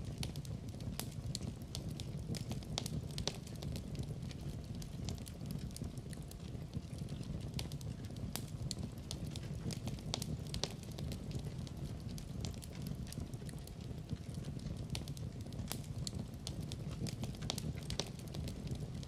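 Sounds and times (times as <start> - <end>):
fire flames rushing: 0.0 - 19.0
wood fire crackling and popping: 0.0 - 19.0.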